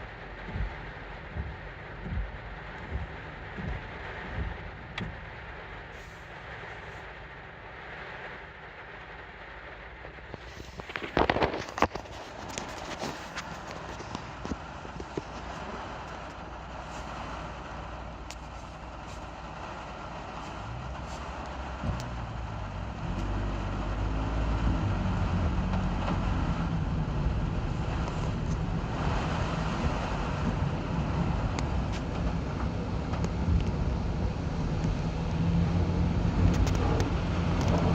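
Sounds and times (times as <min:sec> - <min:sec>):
car engine revving: 0:00.0 - 0:06.9, 0:13.5 - 0:37.9
road and storm hiss: 0:00.0 - 0:37.9.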